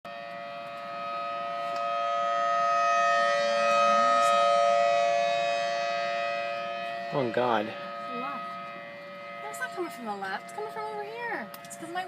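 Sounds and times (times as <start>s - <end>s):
outdoor warning siren: 0.0s - 12.0s.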